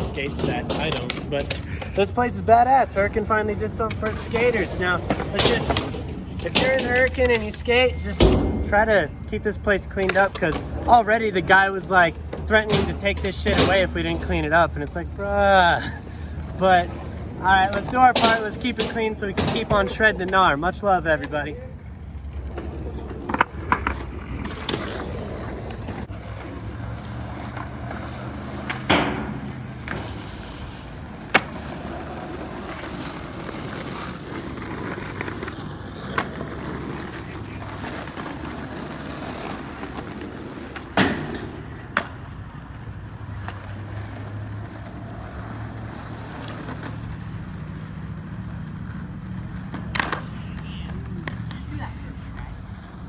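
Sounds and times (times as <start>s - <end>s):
skateboard clacking on ground: 0.0s - 53.0s
skateboard wheels rolling on concrete: 0.0s - 53.0s.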